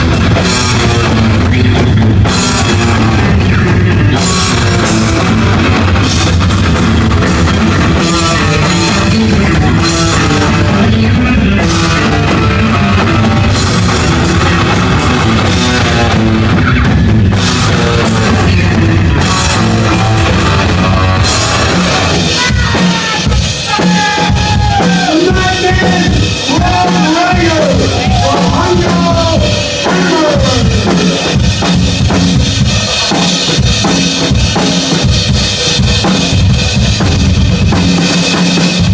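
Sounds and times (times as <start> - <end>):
distorted guitar: 0.0 - 38.9
drum hits: 0.0 - 38.9
heavy metal band playing: 0.0 - 38.9.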